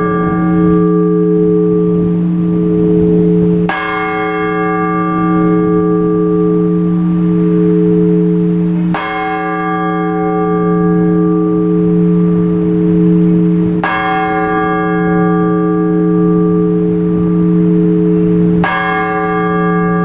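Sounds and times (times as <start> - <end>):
large church bell tolling: 0.0 - 20.0.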